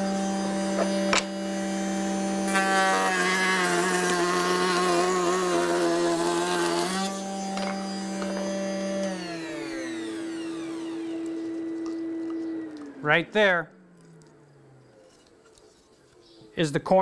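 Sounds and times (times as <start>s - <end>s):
router motor spinning: 0.0s - 16.2s
wood cutting noise: 0.0s - 16.6s.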